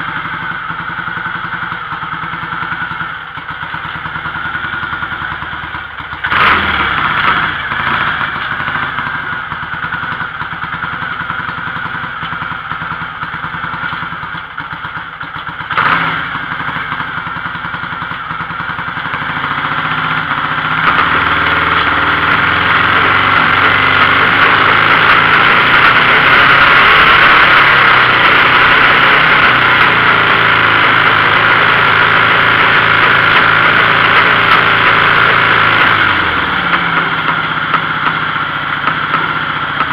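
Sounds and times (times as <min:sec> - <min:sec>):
motorcycle engine running unevenly: 0:00.0 - 0:39.9.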